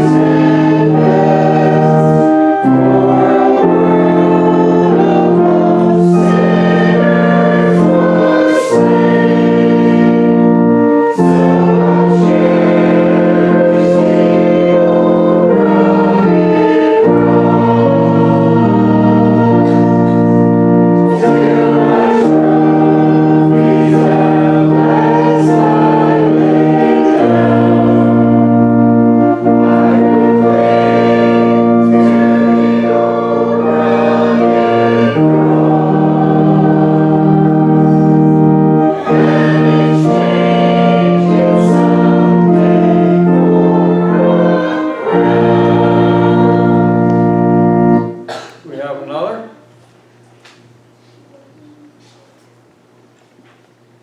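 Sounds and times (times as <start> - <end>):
congregation singing a hymn: 0.0 - 48.6
organ: 0.0 - 54.0.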